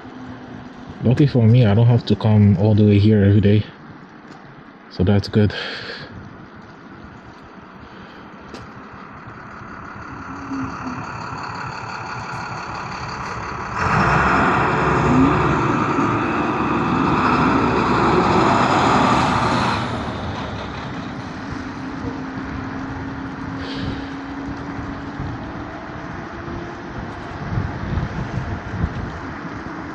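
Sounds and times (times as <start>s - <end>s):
heavy vehicle passing: 0.0s - 29.9s
street traffic: 0.0s - 29.9s.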